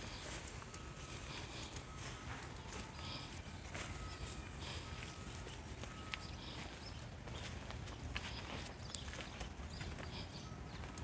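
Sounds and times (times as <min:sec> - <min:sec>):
footsteps on grass: 0:00.0 - 0:11.0.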